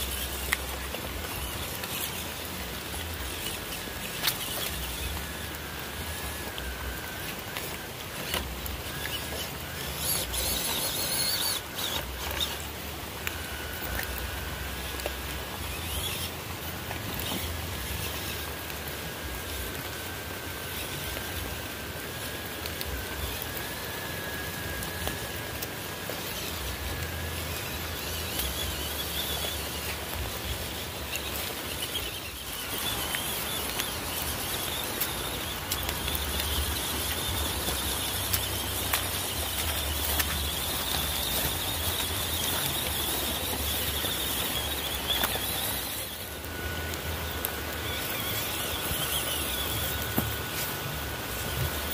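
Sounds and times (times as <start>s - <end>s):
motor and gear whine: 0.0s - 51.9s.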